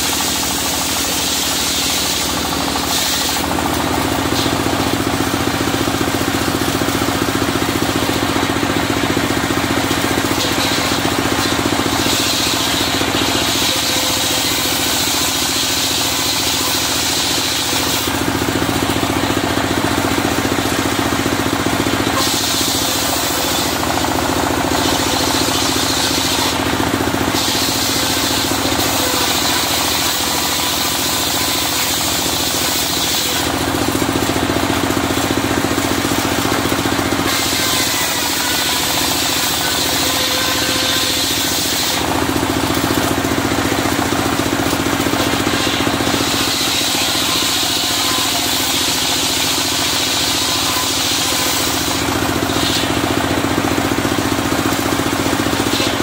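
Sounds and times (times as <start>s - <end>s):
saw blade cutting wood: 0.0s - 56.0s
sawmill engine knocking: 0.0s - 56.0s.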